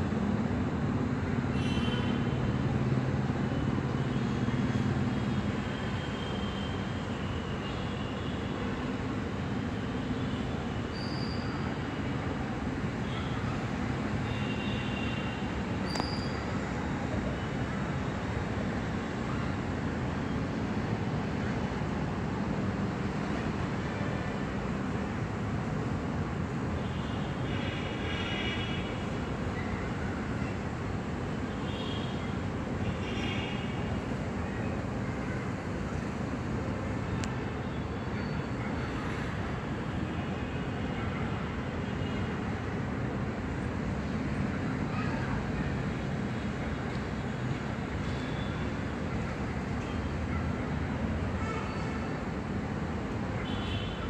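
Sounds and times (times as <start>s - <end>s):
rumble of passing vehicles: 0.0s - 54.0s.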